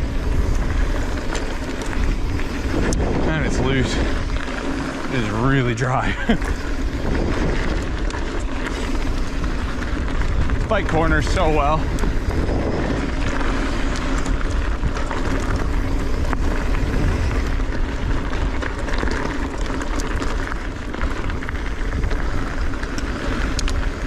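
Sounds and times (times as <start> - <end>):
bike clicks and rattles: 0.0 - 24.0
tyres rolling on loose dirt: 0.0 - 24.0
wind rushing over microphone: 0.0 - 24.0.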